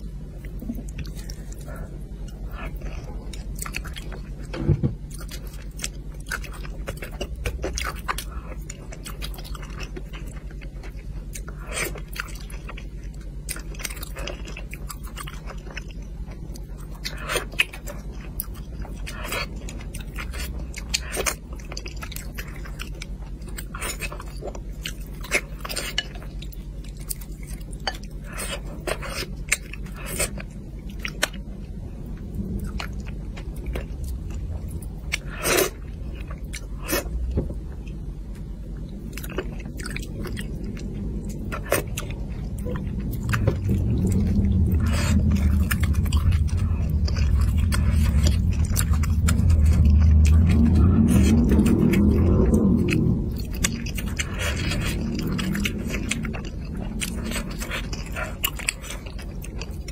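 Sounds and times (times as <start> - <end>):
steady low hum: 0.0 - 59.9
wet chewing and mouth clicks: 0.0 - 59.9.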